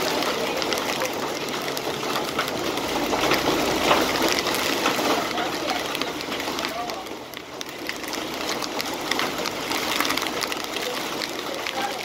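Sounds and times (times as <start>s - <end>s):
raindrops hitting surfaces: 0.0s - 12.0s
torrential rain pouring: 0.0s - 12.0s.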